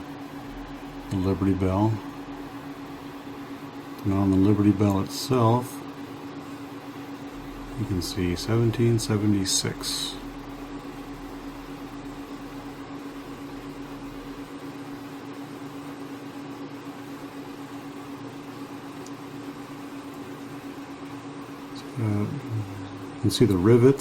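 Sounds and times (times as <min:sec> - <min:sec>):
background hum with hiss: 0:00.0 - 0:24.0.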